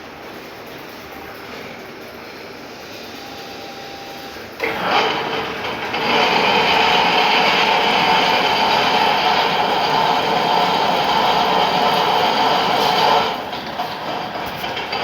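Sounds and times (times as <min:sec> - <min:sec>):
lathe cutting workpiece: 0:02.7 - 0:15.0.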